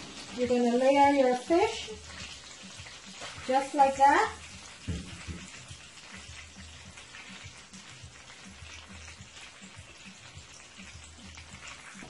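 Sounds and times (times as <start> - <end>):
fish sizzling in butter: 0.0 - 12.0.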